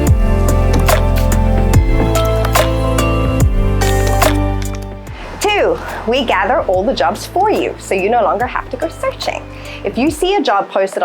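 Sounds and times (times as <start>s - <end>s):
background music with bass beat: 0.0s - 10.4s.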